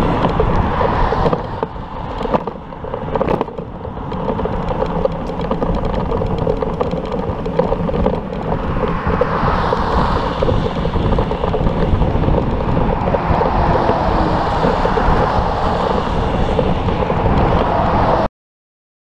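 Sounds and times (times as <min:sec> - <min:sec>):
road traffic passing: 0:00.0 - 0:18.3
wind buffeting microphone: 0:00.0 - 0:18.3.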